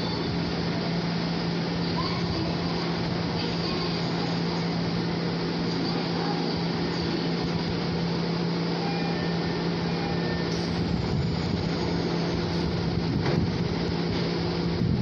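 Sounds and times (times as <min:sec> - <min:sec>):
electric train equipment humming: 0:00.0 - 0:15.0.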